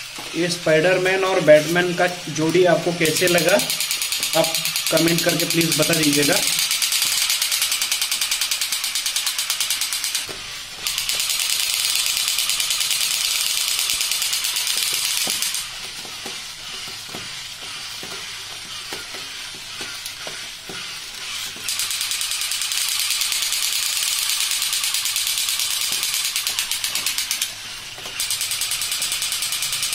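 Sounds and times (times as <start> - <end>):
toy gun rattle and motors: 0.0 - 29.9.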